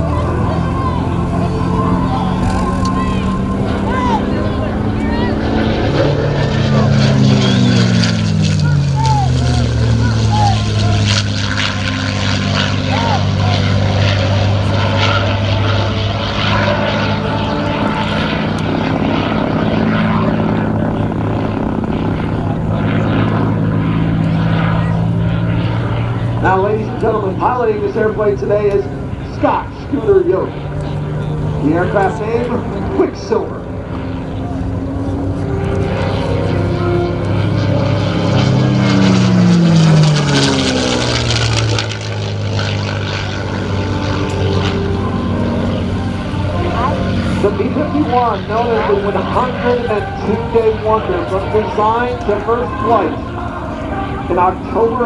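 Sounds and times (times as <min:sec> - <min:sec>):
propeller plane engine running: 0:00.0 - 0:55.0.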